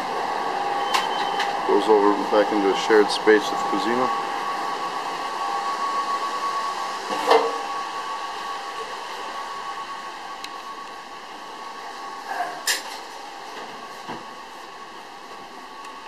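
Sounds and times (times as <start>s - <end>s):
ventilation fan running: 0.0s - 16.0s.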